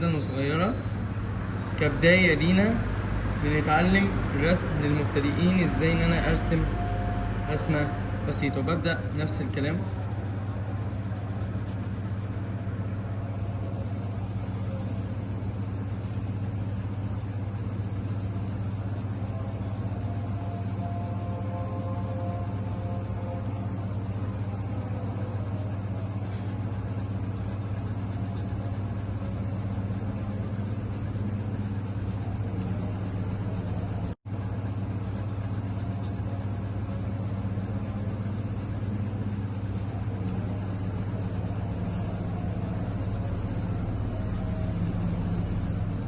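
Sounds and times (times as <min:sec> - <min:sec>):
low hum: 0:00.0 - 0:46.0.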